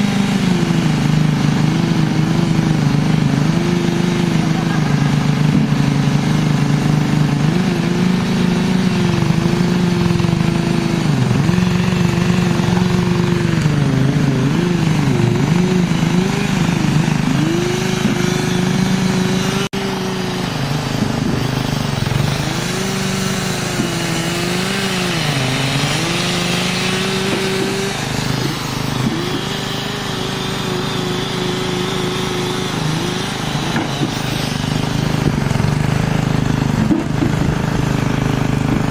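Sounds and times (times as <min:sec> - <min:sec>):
small engine running under load: 0:00.0 - 0:38.9.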